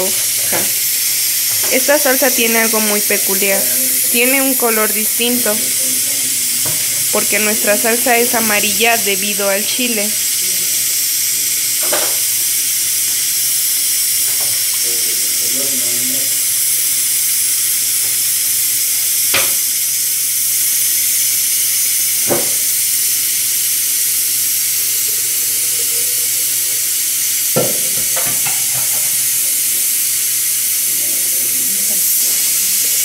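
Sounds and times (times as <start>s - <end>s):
food sizzling in a pot: 0.0s - 33.0s.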